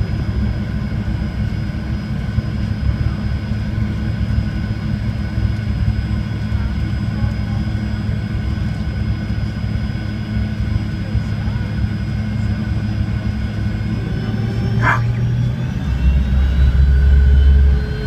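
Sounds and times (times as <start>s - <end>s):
jet engine hum in cabin: 0.0s - 18.0s
constant whining tones: 0.1s - 18.0s.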